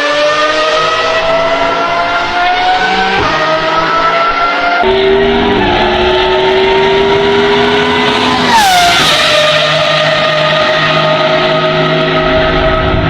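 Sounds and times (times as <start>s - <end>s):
supercar engine revving: 0.0s - 13.0s.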